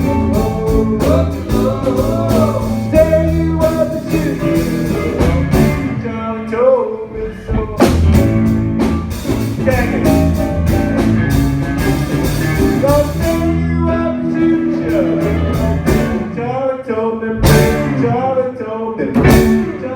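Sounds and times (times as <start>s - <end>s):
live blues-rock band: 0.0s - 6.5s, 7.2s - 16.6s, 17.4s - 18.4s, 19.1s - 19.9s
person singing: 0.0s - 8.2s, 9.5s - 19.9s.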